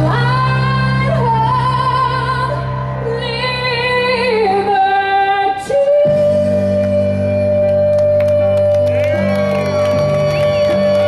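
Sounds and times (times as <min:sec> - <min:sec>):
woman singing into a microphone: 0:00.0 - 0:08.9
amplified accompaniment: 0:00.0 - 0:11.0.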